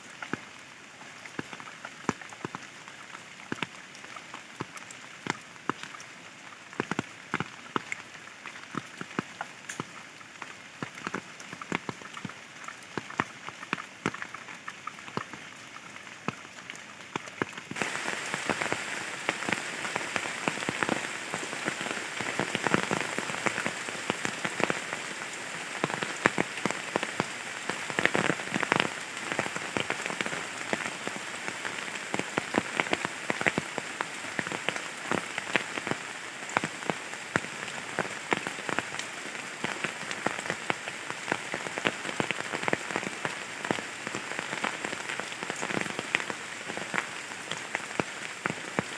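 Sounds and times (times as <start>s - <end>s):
steady rain: 0.0s - 48.9s
raindrops ticking: 0.1s - 48.9s.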